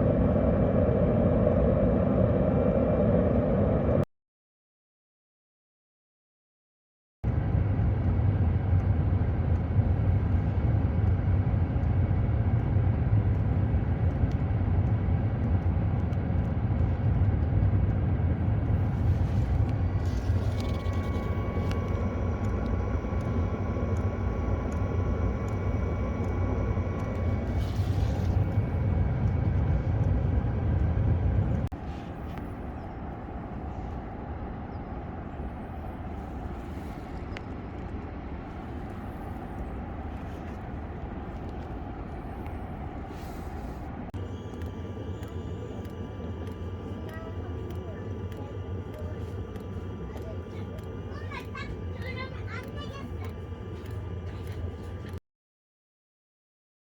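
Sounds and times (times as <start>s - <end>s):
air heater rumbling: 0.0s - 4.0s, 7.3s - 55.2s
faint high whine: 7.3s - 55.2s.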